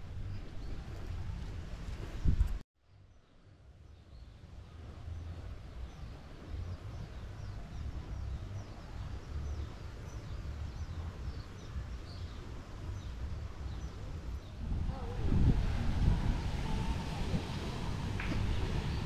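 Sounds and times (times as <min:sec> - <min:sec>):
wind rumble on microphone: 0:00.0 - 0:02.6, 0:03.9 - 0:19.0.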